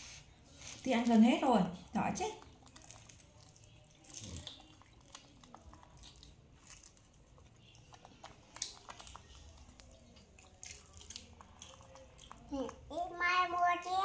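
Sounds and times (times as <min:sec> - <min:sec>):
faint crunching and chewing: 0:00.0 - 0:14.0.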